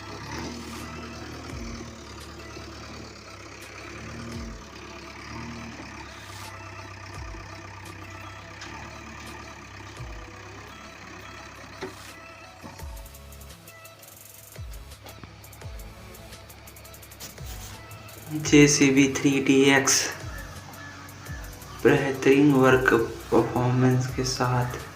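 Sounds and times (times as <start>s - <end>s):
heavy diesel engine surging: 0.0s - 24.9s.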